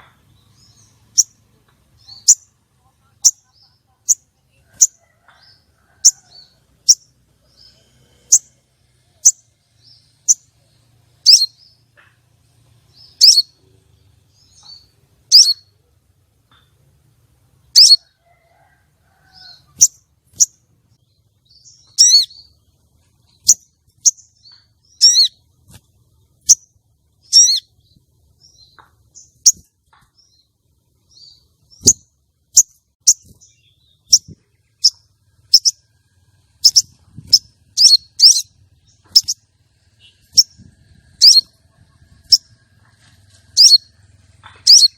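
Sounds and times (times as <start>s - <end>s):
bird chirping: 0.0s - 17.0s, 17.6s - 44.9s.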